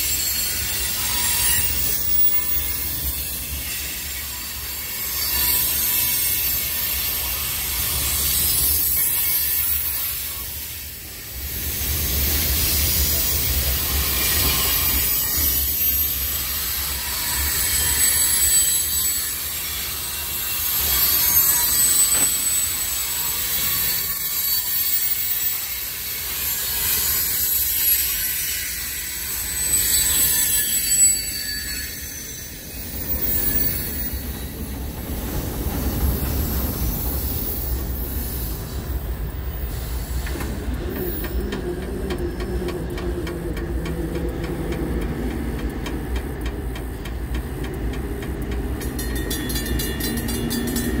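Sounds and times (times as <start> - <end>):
freight train rumbling: 0.0 - 51.0
steel wheels squealing on rails: 0.0 - 51.0.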